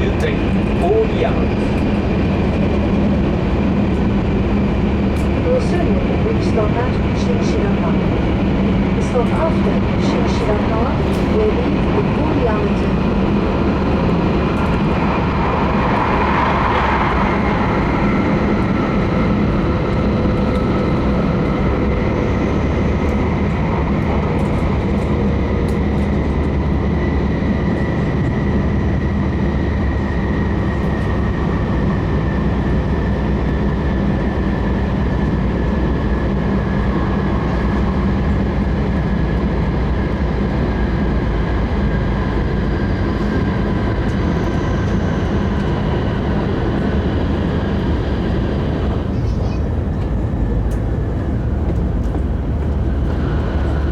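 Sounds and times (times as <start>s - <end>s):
train rumble inside cabin: 0.0s - 53.9s.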